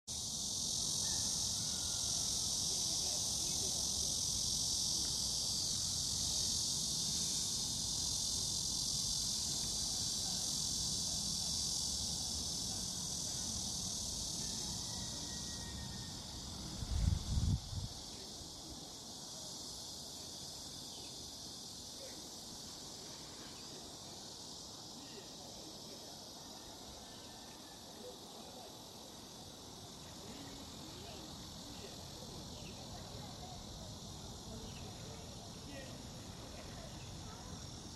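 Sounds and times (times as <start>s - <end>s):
insect chorus drone: 0.1s - 37.9s.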